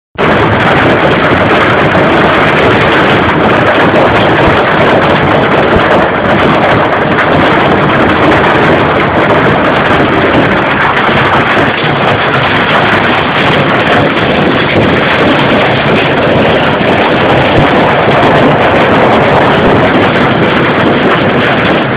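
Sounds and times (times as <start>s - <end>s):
hail and heavy rain on concrete: 0.2s - 21.9s.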